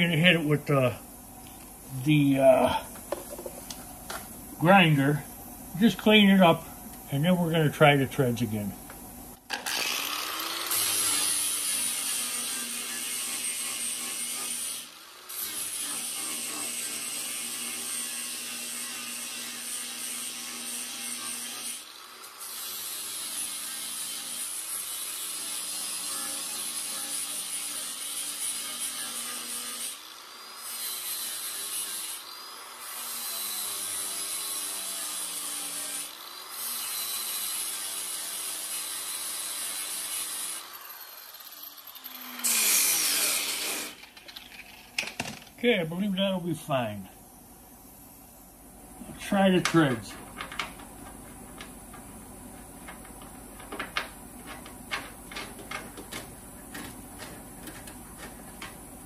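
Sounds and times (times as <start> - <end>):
angle grinder grinding steel: 9.5 - 47.0, 49.0 - 59.0.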